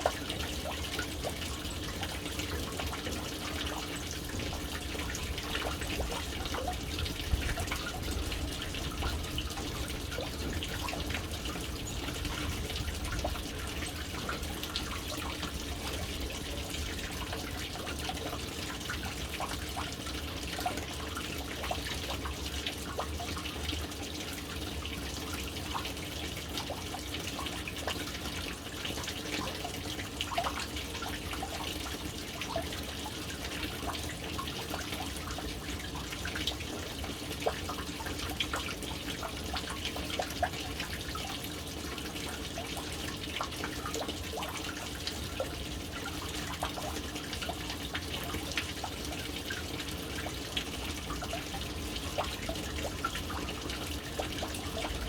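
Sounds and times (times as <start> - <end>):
water drips and splashes: 0.0 - 55.0
water stream splashing into tank: 0.0 - 55.0.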